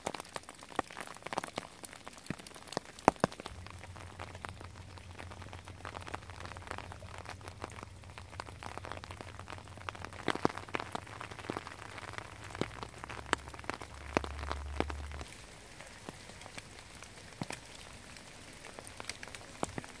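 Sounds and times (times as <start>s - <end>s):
rain pattering on leaves: 0.0s - 20.0s
low steady rumble: 3.4s - 20.0s.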